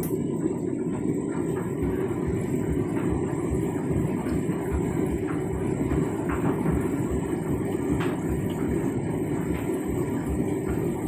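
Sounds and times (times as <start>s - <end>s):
washing machine drum rumble: 0.0s - 11.0s
water sloshing in washing machine: 0.0s - 11.0s.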